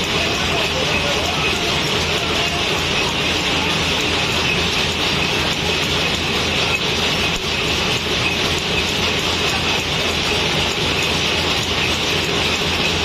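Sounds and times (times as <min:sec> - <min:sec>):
low machine hum: 0:00.0 - 0:13.0
machinery clatter: 0:00.0 - 0:13.0.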